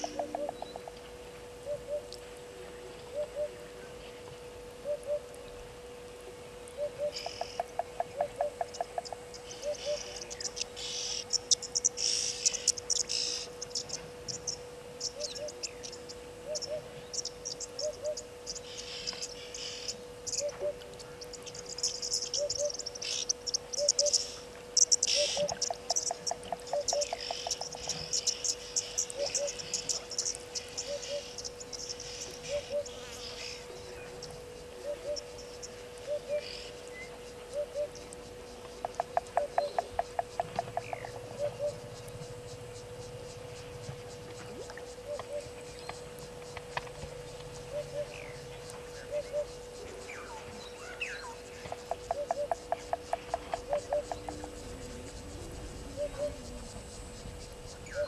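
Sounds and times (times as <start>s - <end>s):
insects chirping and ticking: 0.0s - 2.3s, 4.4s - 58.0s
low hum: 0.0s - 58.0s.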